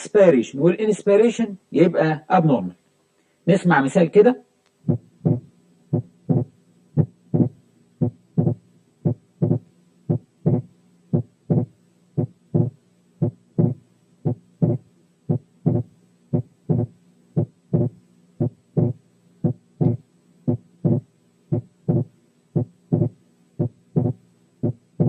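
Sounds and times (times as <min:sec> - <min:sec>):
heartbeat lub-dub: 0:04.9 - 0:25.0.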